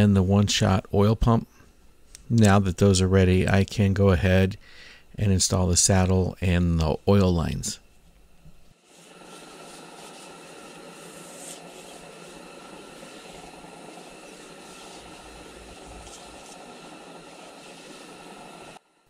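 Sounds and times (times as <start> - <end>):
faint steady hum tones: 0.0 - 19.0
steady hissing noise: 0.0 - 19.0.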